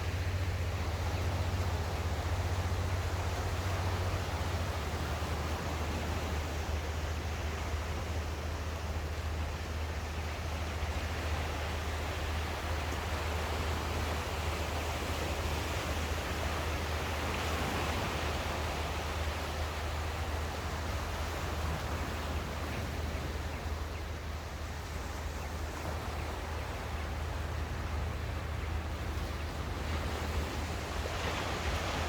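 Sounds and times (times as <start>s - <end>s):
sea surf washing ashore: 0.0s - 32.0s.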